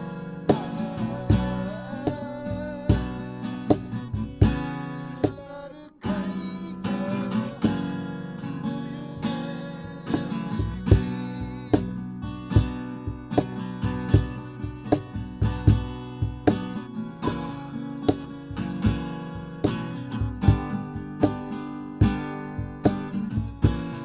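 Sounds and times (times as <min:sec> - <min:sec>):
acoustic guitar strumming: 0:00.0 - 0:24.0
wavering guitar melody: 0:00.0 - 0:24.0.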